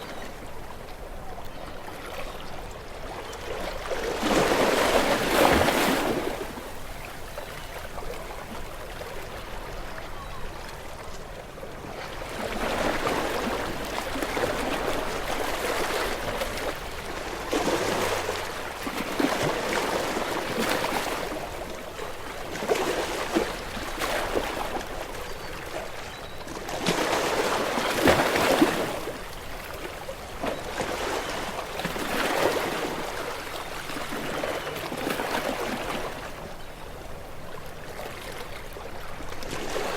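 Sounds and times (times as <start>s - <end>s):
small waves breaking on shore: 0.0s - 39.9s.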